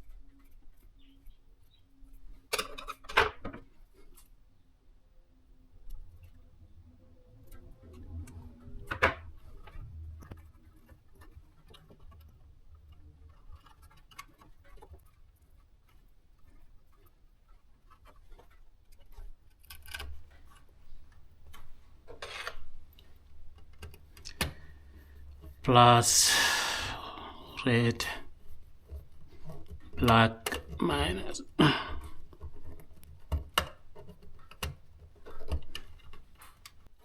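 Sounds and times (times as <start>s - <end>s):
hands handling parts and wiring: 0.0s - 4.7s, 5.8s - 37.0s.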